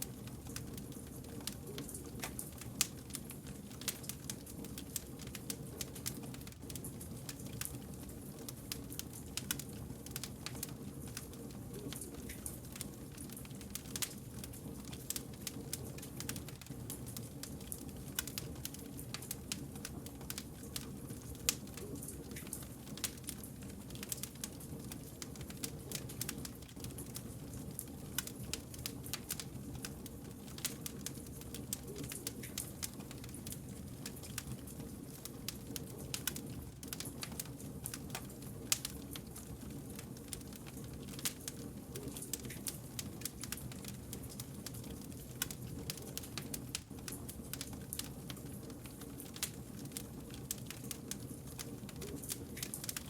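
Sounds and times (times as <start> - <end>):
flames rumbling: 0.0 - 53.0
logs crackling and popping: 0.0 - 53.0.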